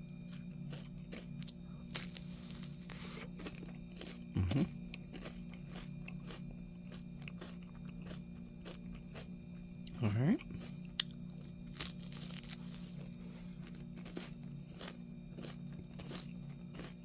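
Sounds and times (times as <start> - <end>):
ice cream cone crunching: 0.0 - 17.0
steady low hum: 0.0 - 17.0.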